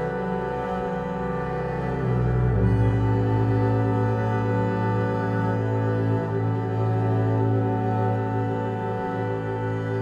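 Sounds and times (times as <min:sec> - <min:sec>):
slow instrumental chords: 0:00.0 - 0:10.0.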